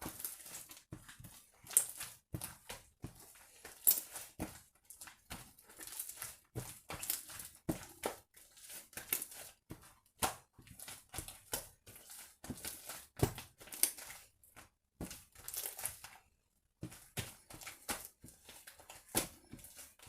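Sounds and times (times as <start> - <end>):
slime squishing and crackling: 0.0 - 16.2.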